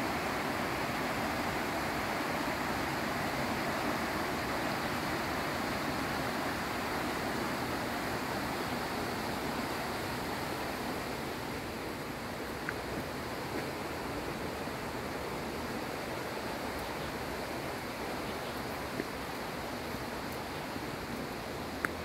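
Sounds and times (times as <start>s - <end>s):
stream flowing over rocks: 0.0s - 22.0s.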